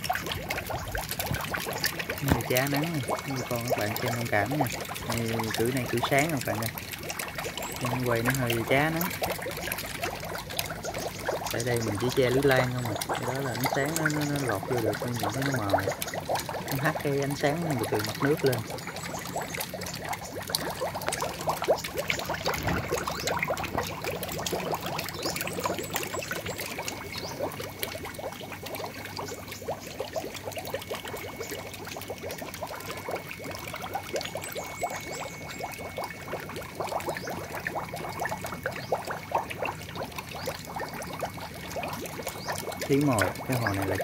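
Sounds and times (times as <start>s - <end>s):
water pouring and trickling: 0.0s - 44.0s.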